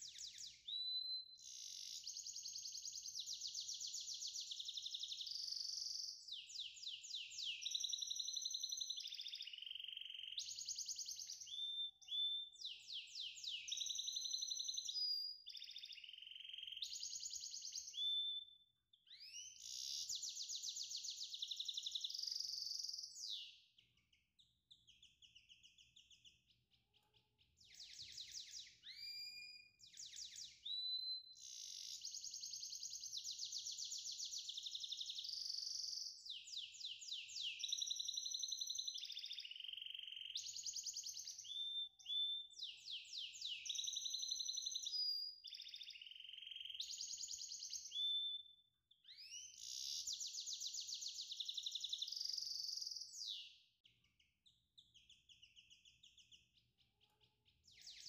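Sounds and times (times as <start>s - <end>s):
songbird singing trills: 0.0s - 58.0s.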